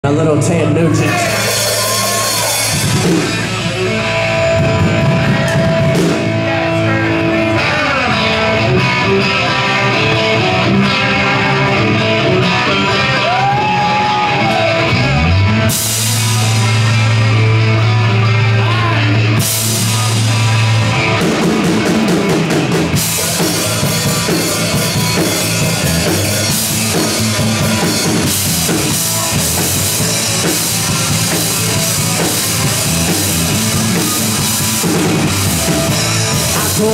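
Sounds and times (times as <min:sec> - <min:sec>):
bass guitar: 0:00.0 - 0:36.9
distorted electric guitars: 0:00.0 - 0:36.9
drum kit: 0:00.0 - 0:36.9.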